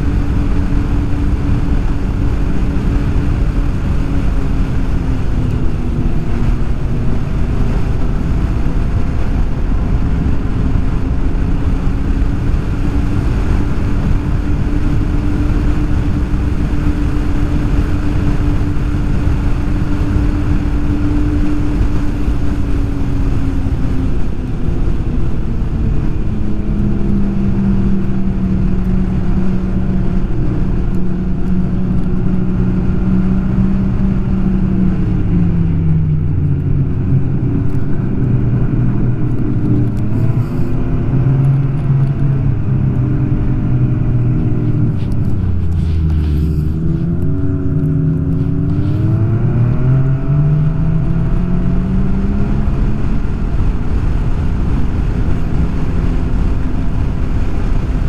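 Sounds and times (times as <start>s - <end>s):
snowmobile engine running: 0.0s - 58.0s
track rumble: 0.0s - 58.0s
wind: 0.0s - 58.0s.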